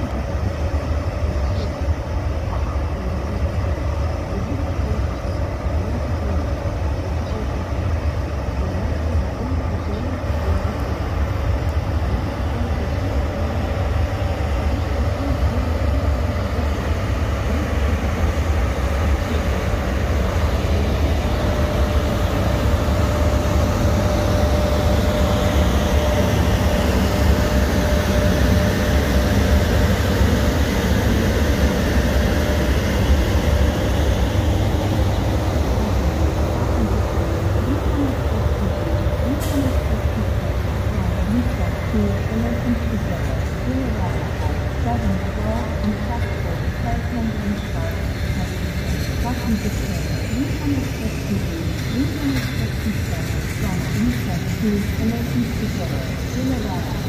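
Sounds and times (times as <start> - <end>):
steady hum: 0.0 - 57.0
train low rumble: 0.0 - 57.0.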